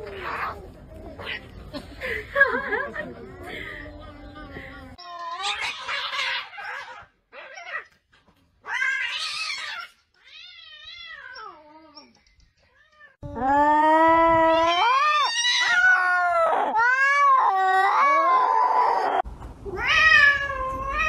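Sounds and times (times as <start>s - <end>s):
cats caterwauling: 0.0s - 1.7s, 3.2s - 8.0s, 8.6s - 12.0s, 12.8s - 21.0s.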